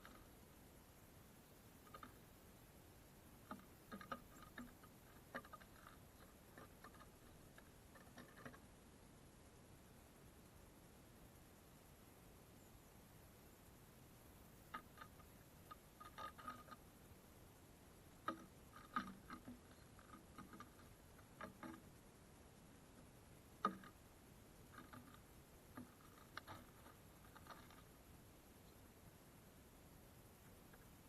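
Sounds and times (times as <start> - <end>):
birds pecking at seed: 0.0 - 8.9, 14.1 - 31.0.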